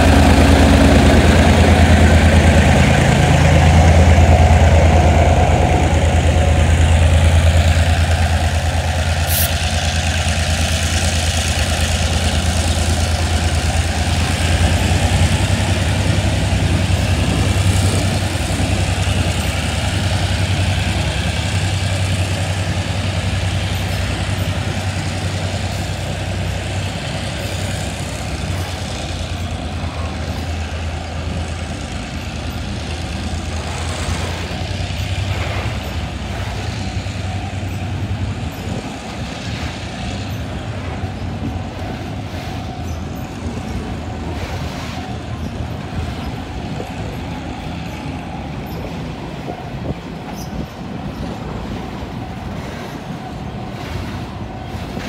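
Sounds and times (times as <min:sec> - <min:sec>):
diesel locomotive engine drone: 0:00.0 - 0:55.0
train wheels rumbling on rail: 0:00.0 - 0:55.0.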